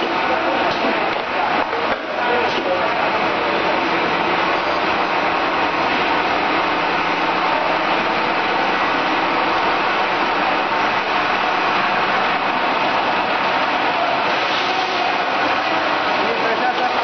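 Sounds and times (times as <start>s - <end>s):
bottle filling machine running: 0.0s - 17.0s.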